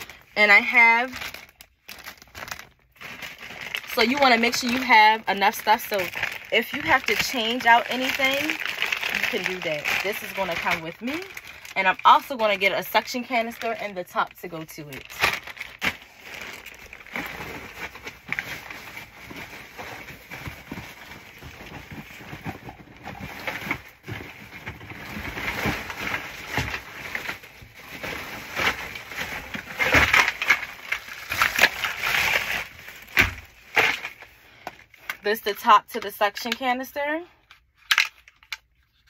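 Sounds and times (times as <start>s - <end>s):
plastic packaging crinkling: 0.0s - 35.6s.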